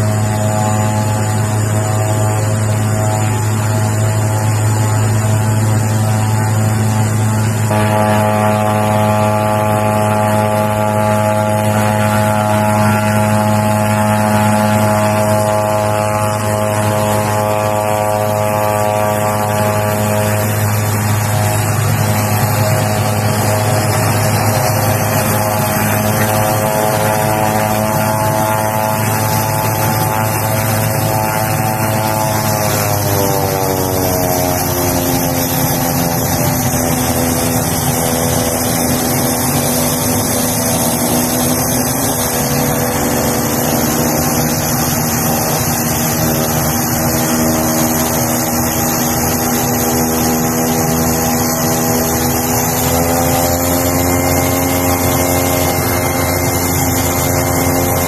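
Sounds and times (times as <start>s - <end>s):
propeller drone: 0.0s - 58.0s
turbine whine: 0.0s - 58.0s.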